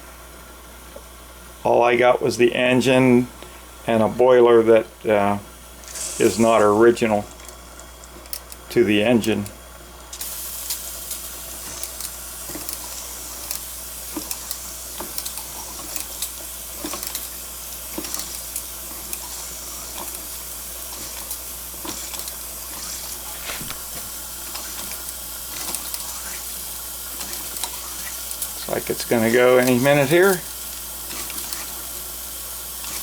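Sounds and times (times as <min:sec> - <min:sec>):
toy boiler hissing: 0:05.0 - 0:33.0.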